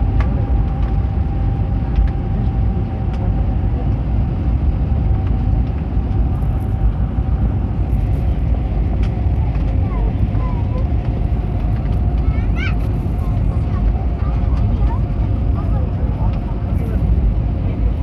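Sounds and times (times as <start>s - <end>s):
jet engine whine: 0.0s - 18.0s
low cabin rumble: 0.0s - 18.0s.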